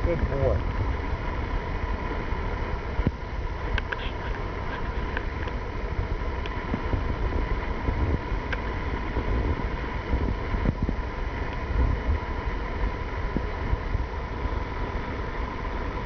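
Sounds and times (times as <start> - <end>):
distant dirt bike whine: 0.0 - 16.0
wind buffeting the microphone: 0.0 - 16.0.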